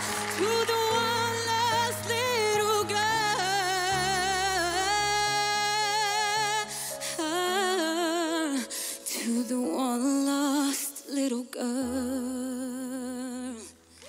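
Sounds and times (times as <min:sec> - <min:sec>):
woman singing a slow ballad: 0:00.0 - 0:14.0.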